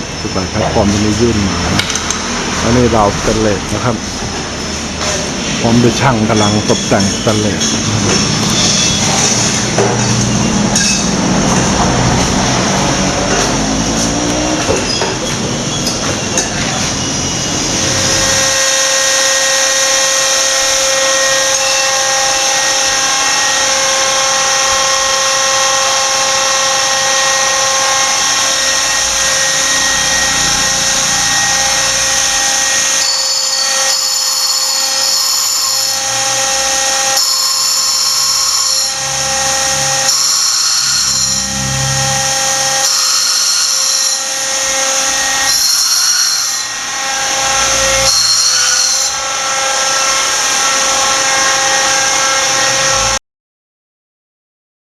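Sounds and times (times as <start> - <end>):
power tool grinding metal: 0.0 - 53.2.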